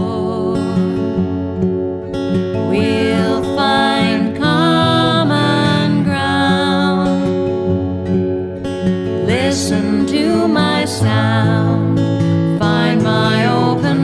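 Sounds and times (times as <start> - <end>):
sliding lead melody: 0.0 - 14.0
strummed acoustic guitar chords: 0.0 - 14.0.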